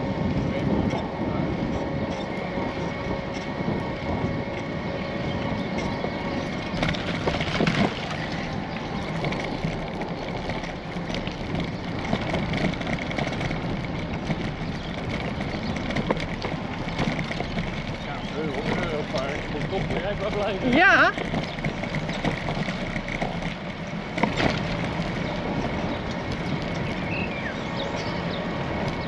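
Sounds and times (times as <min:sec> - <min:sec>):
bicycle tyre noise on path: 0:00.0 - 0:29.0
wind on microphone: 0:00.0 - 0:29.0.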